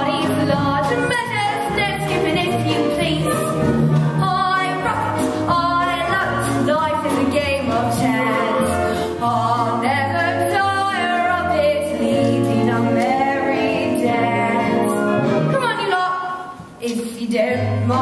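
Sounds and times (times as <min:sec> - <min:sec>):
woman singing show tune: 0:00.0 - 0:03.6, 0:04.2 - 0:18.0
instrumental accompaniment: 0:00.0 - 0:16.8.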